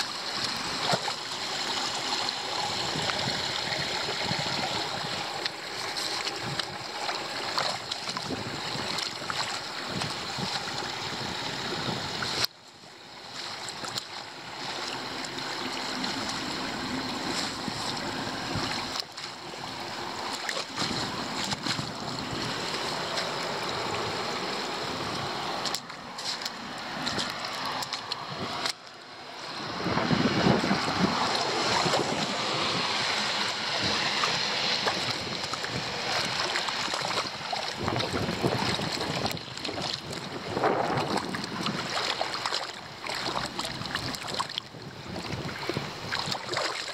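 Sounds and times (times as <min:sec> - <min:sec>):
rainwater gurgling down a drain: 0:00.0 - 0:46.9.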